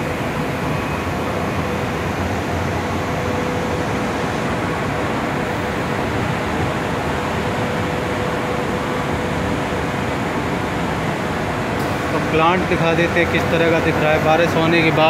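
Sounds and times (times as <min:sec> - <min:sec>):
industrial machinery hum: 0:00.0 - 0:15.0.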